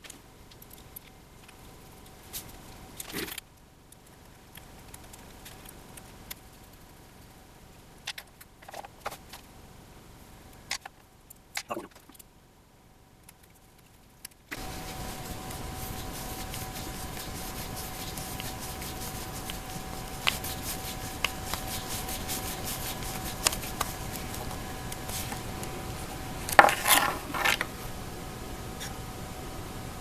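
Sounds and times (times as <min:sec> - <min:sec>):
steady hum with high tone: 0:00.0 - 0:30.0.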